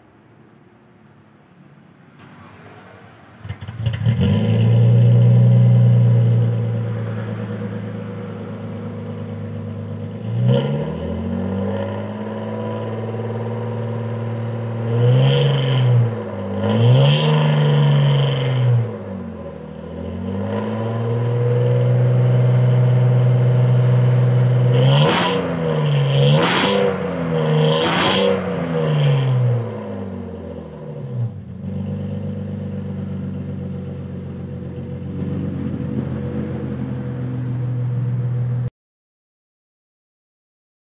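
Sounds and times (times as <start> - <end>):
car engine idling and revving: 2.2 - 38.7.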